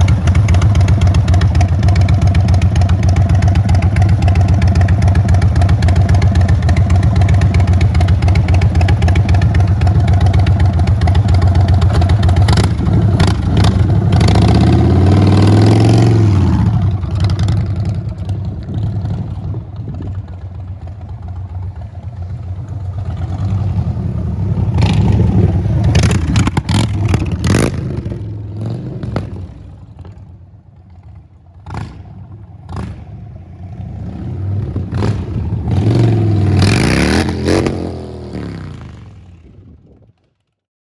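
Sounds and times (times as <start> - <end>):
motorcycle engine idling and revving: 0.0 - 40.7.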